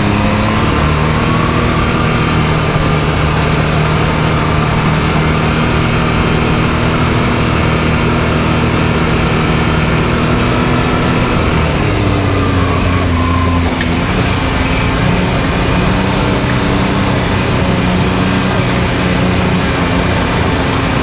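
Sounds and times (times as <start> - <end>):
off-road vehicle engine running: 0.0 - 21.0
rush of ride noise: 0.0 - 21.0.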